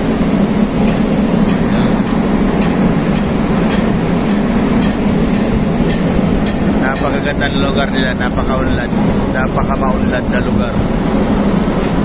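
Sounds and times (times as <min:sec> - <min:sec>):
ship engine droning: 0:00.0 - 0:12.0
wind buffeting microphone: 0:00.0 - 0:12.0.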